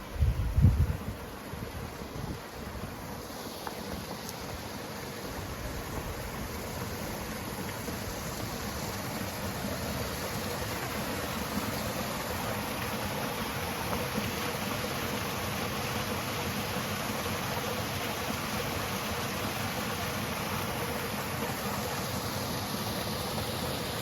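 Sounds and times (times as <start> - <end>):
waterfall rushing: 2.6 - 24.0.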